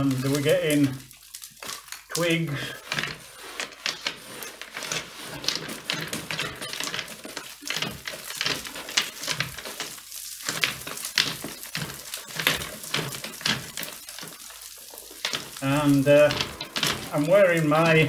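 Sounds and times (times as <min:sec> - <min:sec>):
chimney brush scraping and rattling: 0:00.0 - 0:18.0
twigs dropping into fireplace: 0:00.0 - 0:18.0.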